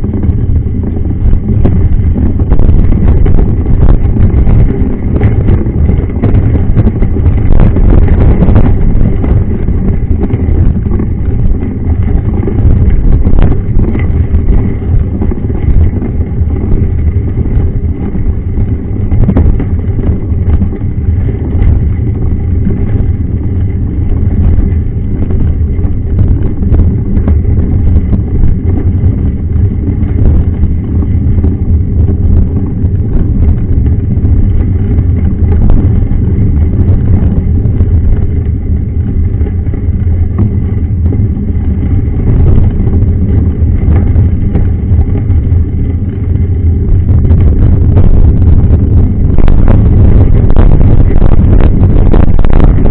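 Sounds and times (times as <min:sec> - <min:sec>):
bike tyres rumbling on gravel: 0:00.0 - 0:52.9.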